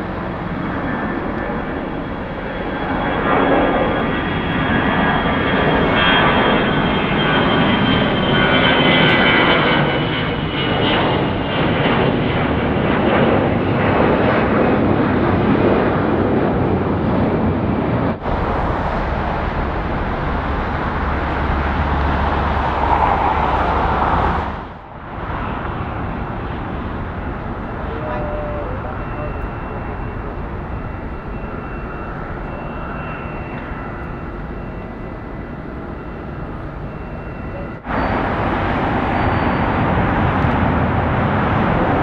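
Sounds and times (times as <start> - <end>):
jet engines taxiing: 0.0 - 42.0.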